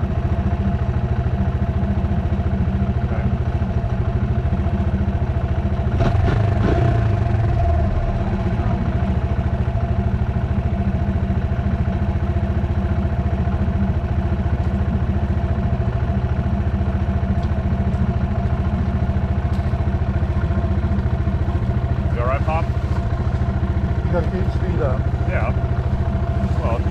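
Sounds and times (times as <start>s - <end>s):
dirt bike engine idling: 0.0s - 26.9s.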